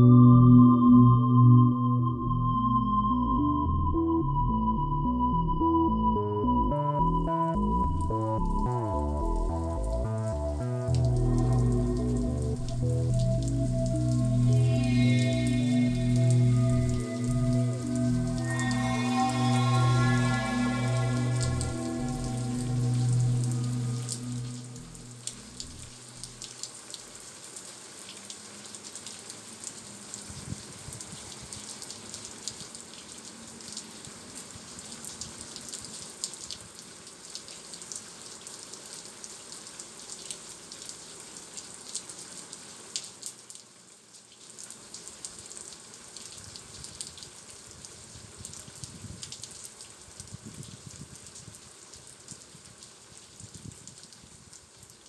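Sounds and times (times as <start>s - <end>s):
brine trickling and dripping: 7.9s - 55.0s.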